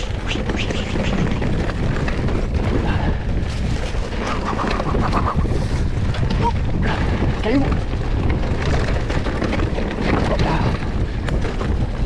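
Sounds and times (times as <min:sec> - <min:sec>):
bike rattling over stones: 0:00.0 - 0:12.0
wind buffeting microphone: 0:00.0 - 0:12.0.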